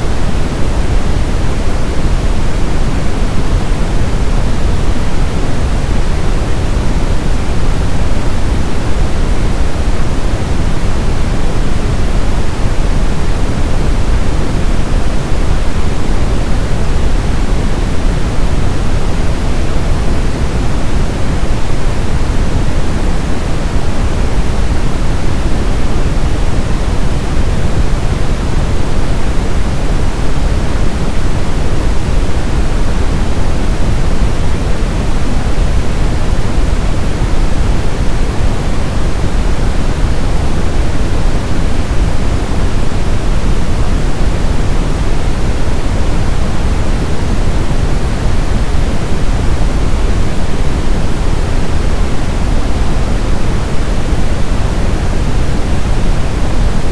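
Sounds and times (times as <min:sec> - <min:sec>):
brown noise: 0:00.0 - 0:56.9.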